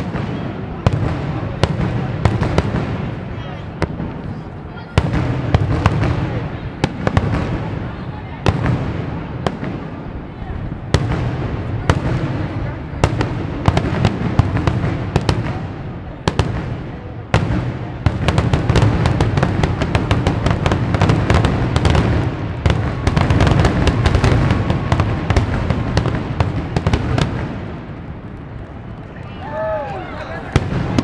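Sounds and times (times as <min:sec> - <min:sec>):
fireworks bursts and crackling: 0:00.0 - 0:31.0.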